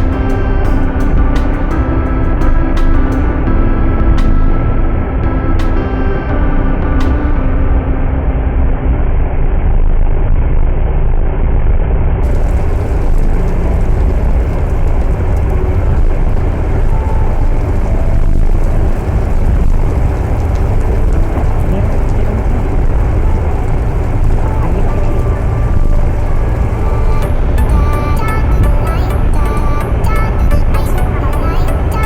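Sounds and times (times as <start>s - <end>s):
faint music tones: 0.0s - 9.7s, 12.2s - 32.0s
low rumbling noise: 0.0s - 32.0s.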